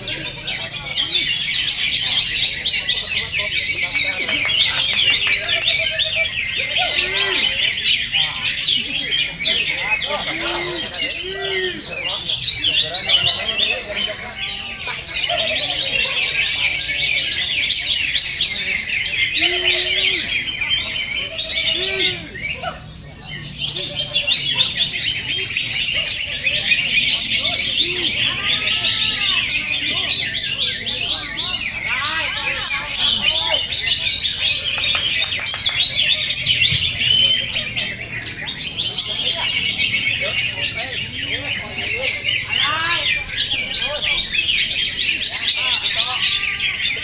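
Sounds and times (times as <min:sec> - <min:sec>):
birds chirping and trilling: 0:00.0 - 0:47.0.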